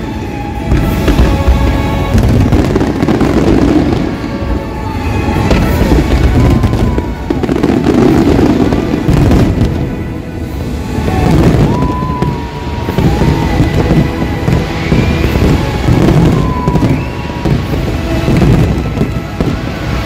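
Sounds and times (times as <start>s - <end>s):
fireworks bangs and crackles: 0.0s - 20.0s
soundtrack music: 0.0s - 20.0s.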